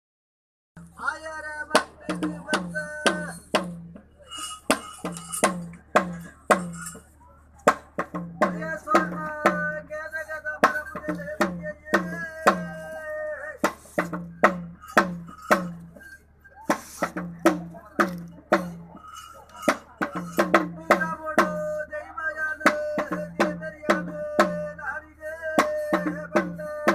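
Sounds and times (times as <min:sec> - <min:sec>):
ritual drums beaten: 0:00.8 - 0:26.9.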